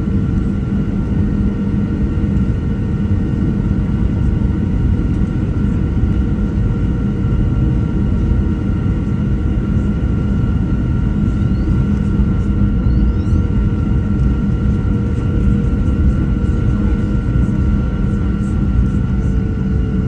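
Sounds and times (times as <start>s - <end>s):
jet engine cabin rumble: 0.0s - 20.0s.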